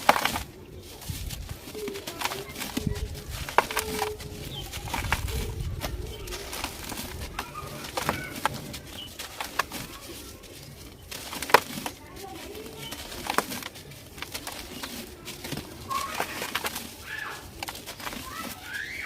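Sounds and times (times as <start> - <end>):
dry chunks crumbling and crunching: 0.0 - 19.0.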